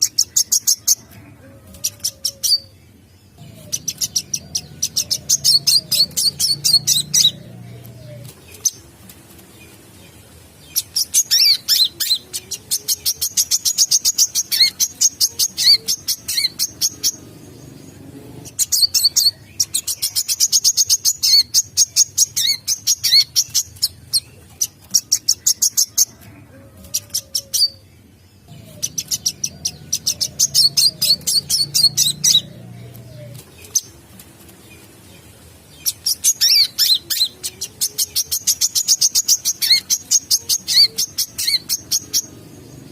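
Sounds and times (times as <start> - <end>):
bird chirping high-pitched: 1.9 - 8.8, 10.7 - 26.2, 28.4 - 33.9, 35.8 - 42.9.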